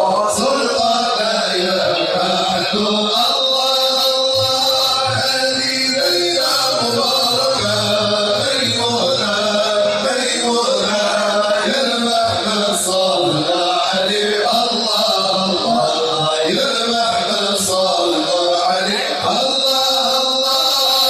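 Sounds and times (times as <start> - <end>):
men chanting devotional song: 0.0 - 21.0.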